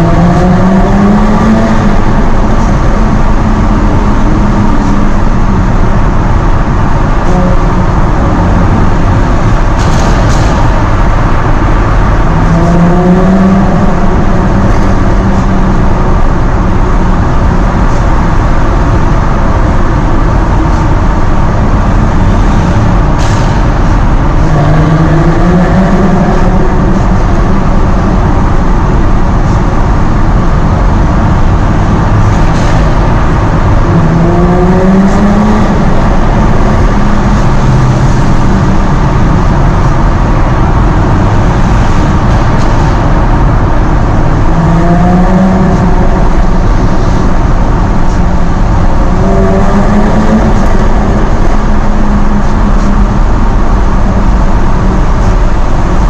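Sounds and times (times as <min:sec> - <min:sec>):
road and wind noise: 0:00.0 - 0:56.0
sports car engine revving: 0:00.0 - 0:56.0.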